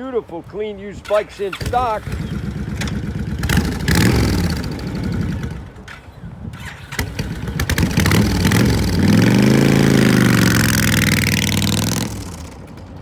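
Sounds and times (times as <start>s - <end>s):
motorcycle engine revving: 1.5s - 13.0s.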